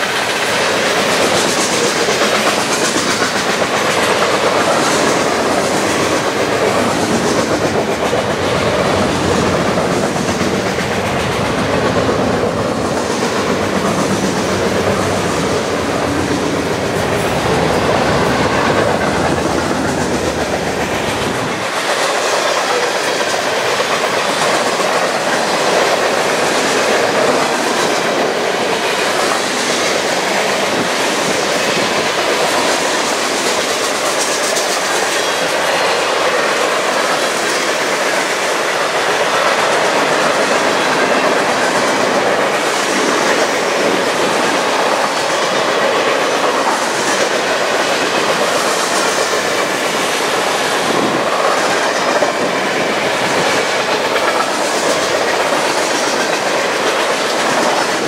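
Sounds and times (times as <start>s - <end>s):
freight train rail clatter: 0.0s - 58.0s.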